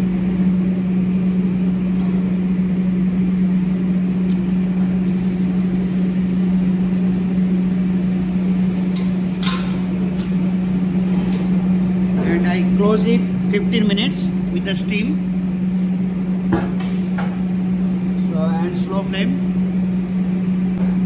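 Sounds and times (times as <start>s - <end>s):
kitchen machine hum: 0.0s - 21.0s.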